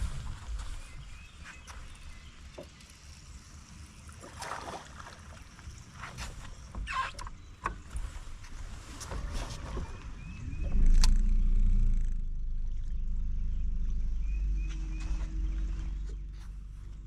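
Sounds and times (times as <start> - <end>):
low boat rumble: 0.0 - 17.0
motor hum: 0.0 - 17.0.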